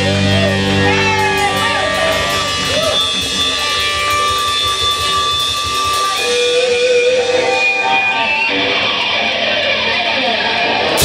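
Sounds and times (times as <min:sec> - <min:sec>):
blues band playing: 0:00.0 - 0:11.0
electric guitar: 0:00.0 - 0:11.0.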